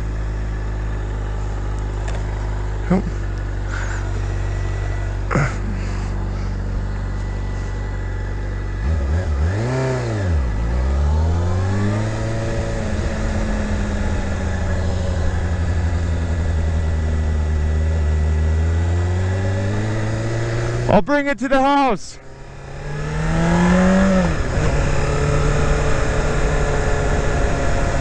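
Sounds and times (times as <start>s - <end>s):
motorcycle engine revving: 0.0s - 21.1s, 22.2s - 28.0s.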